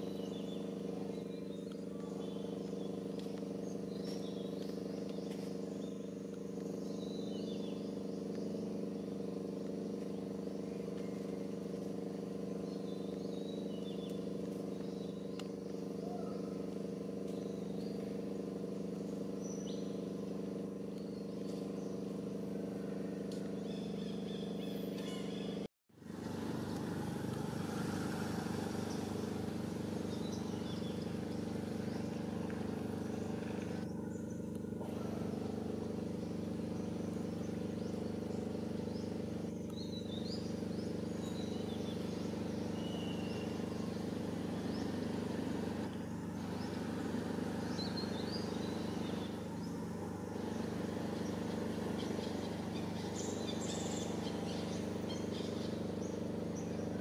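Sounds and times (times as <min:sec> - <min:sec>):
engine idling: 0:00.0 - 0:57.0
faint bird chirps: 0:00.0 - 0:57.0.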